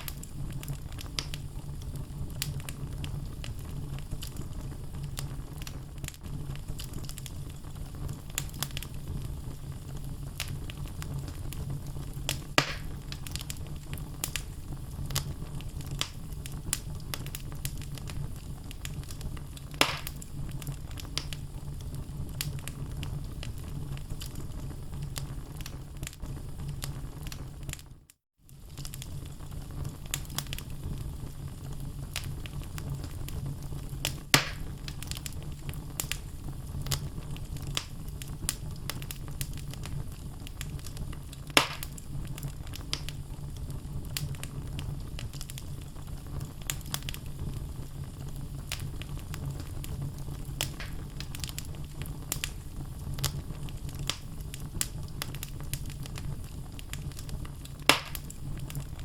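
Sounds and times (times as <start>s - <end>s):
logs crackling: 0.0s - 9.2s, 10.4s - 24.4s, 34.0s - 43.2s, 44.1s - 59.0s
fire rumbling: 0.0s - 59.0s
loud fire pops: 0.0s - 59.0s.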